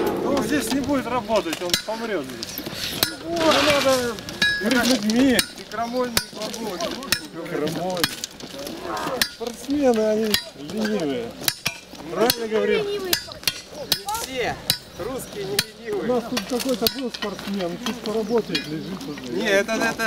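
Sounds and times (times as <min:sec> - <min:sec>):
tools striking gravel: 0:00.0 - 0:19.5
indistinct voices talking: 0:00.0 - 0:20.0.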